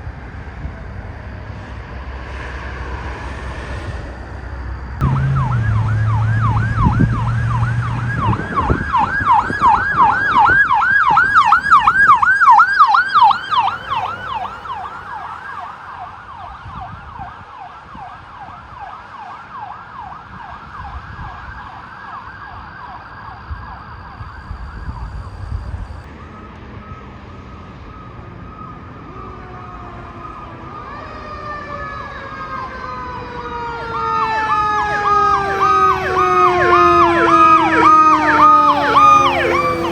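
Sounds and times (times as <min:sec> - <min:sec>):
siren with long falling tones: 0:02.1 - 0:39.9
emergency siren yelping: 0:05.0 - 0:39.9.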